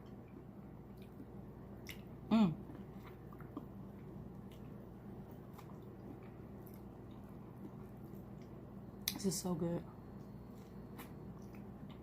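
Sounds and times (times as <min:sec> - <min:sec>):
person chewing food: 0:00.0 - 0:09.2, 0:10.1 - 0:12.0.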